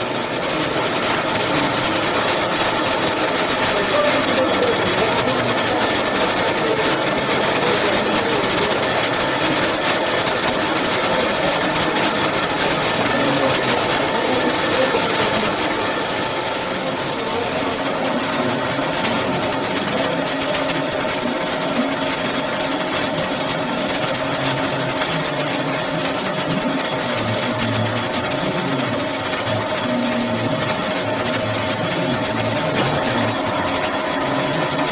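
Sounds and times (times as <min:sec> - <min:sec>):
machine hum: 0:00.0 - 0:34.9.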